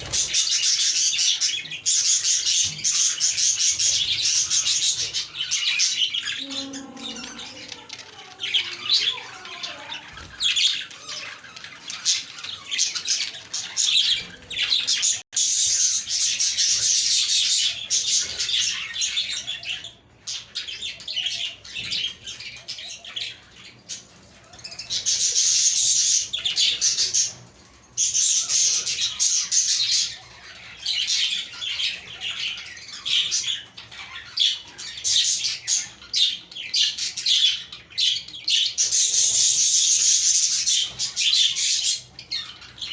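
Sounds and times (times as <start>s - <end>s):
budgerigars chirping and warbling: 0.0s - 42.9s.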